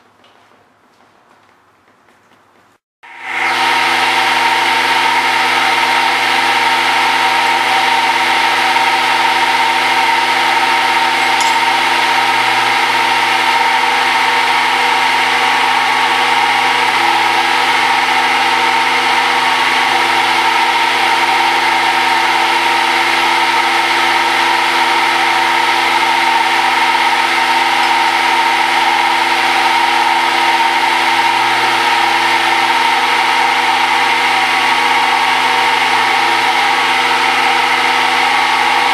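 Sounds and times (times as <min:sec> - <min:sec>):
machine spindle humming: 0:03.1 - 0:38.9.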